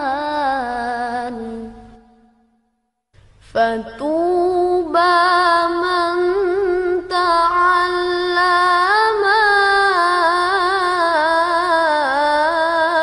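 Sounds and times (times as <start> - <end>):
person chanting: 0.0 - 2.2, 3.5 - 13.0.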